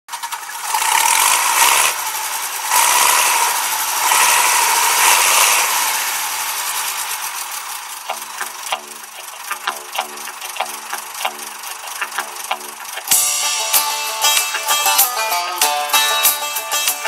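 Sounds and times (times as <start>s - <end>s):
hissy mechanical rattle with whine: 0.1s - 17.0s.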